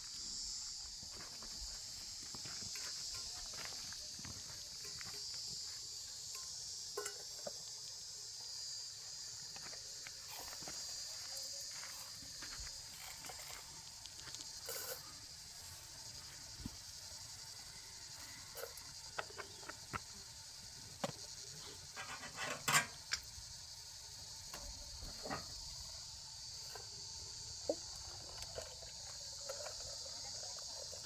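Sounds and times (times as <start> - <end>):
high insect chorus: 0.0 - 31.0.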